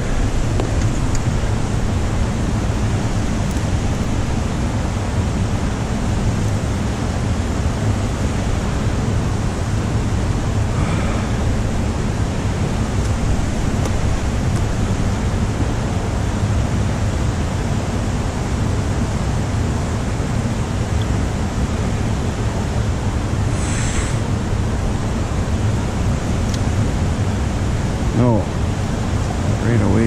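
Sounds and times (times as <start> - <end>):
river rushing over rapids: 0.0 - 30.0.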